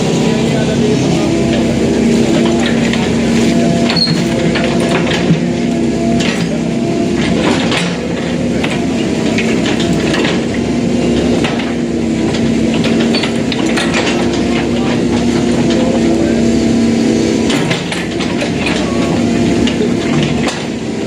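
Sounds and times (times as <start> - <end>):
excavator diesel engine running: 0.0 - 21.0
metallic clanks and knocks: 1.5 - 16.3, 17.4 - 20.8.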